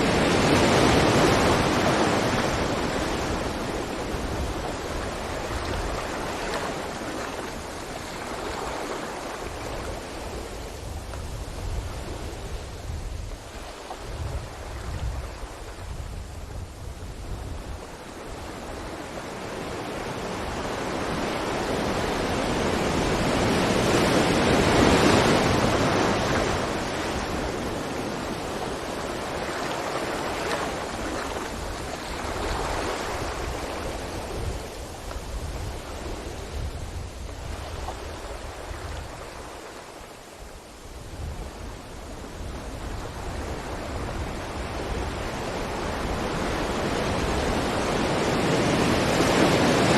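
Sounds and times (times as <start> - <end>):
ocean waves washing onto beach: 0.0 - 49.9.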